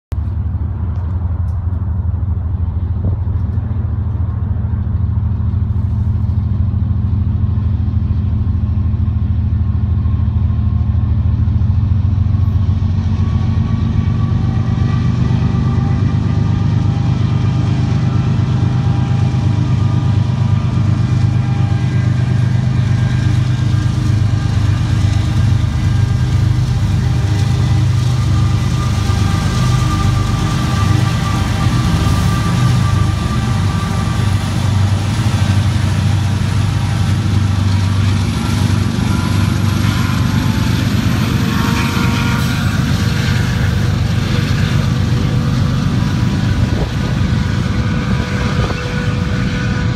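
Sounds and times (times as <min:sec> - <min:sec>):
diesel locomotive engine tones: 0:00.1 - 0:49.9
heavy low rumble: 0:00.1 - 0:49.9.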